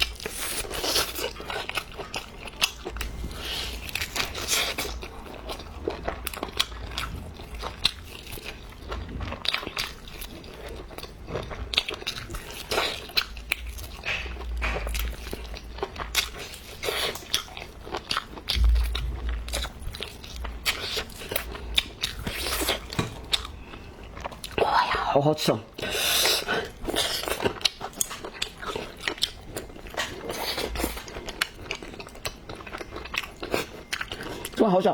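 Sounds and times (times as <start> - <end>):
chewing and crunching food: 0.0 - 34.9.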